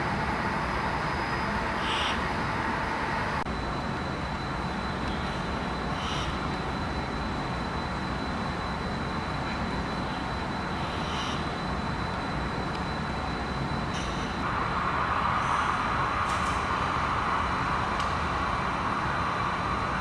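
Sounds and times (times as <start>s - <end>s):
thin high whine: 0.0s - 20.0s.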